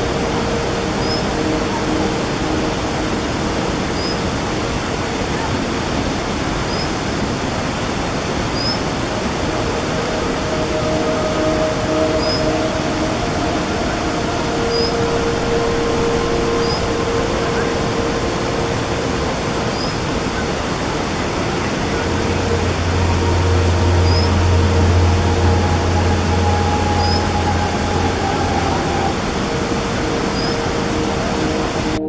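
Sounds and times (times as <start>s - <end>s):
fast-flowing water rushing: 0.0s - 32.0s
low hum: 0.0s - 32.0s.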